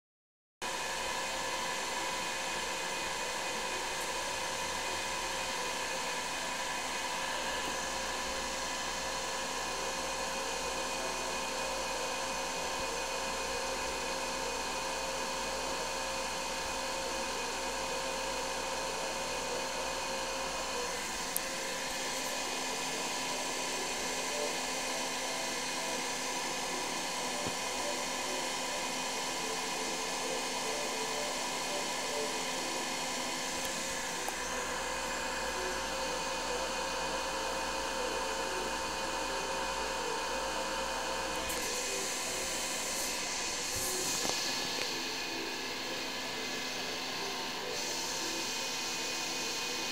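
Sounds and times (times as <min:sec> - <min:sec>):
steady machine hums: 0:00.6 - 0:49.9
equipment whirring hiss: 0:00.7 - 0:49.9.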